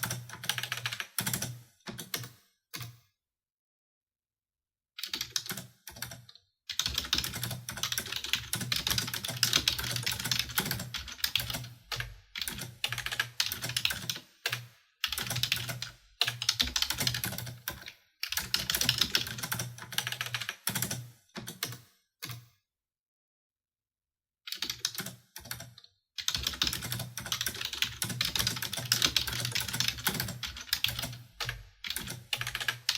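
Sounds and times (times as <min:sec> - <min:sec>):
typing on a keyboard: 0:00.0 - 0:03.0, 0:05.0 - 0:22.4, 0:24.5 - 0:32.9.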